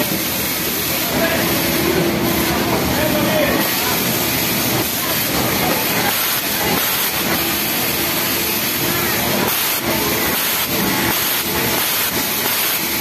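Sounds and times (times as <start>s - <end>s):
sewing machines whirring: 0.0s - 13.0s.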